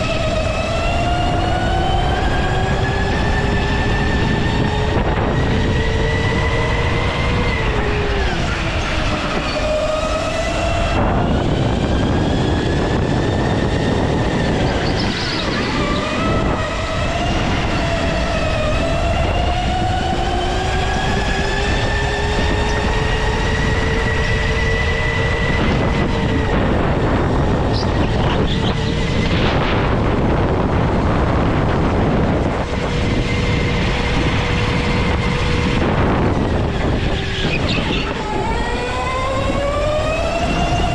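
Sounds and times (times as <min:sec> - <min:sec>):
go-kart motor whine: 0:00.0 - 0:40.9
road and wind noise: 0:00.0 - 0:40.9.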